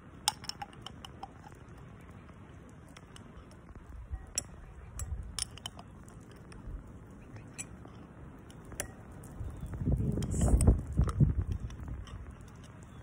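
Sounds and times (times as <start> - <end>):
wind rumble on microphone: 2.1 - 13.0.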